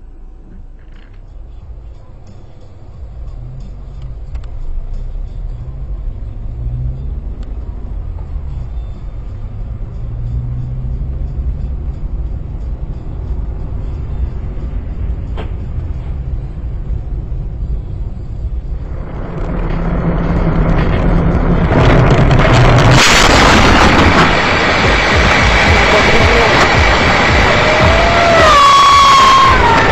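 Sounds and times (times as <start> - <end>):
car engine: 0.0 - 29.9
road rumble: 0.0 - 29.9.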